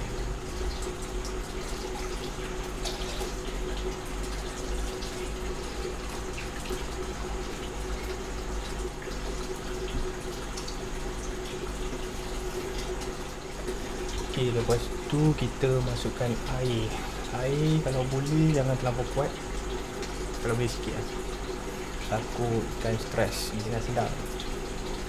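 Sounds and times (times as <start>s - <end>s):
electric pump hum: 0.0s - 25.0s
water splashing into aquarium: 0.0s - 25.0s.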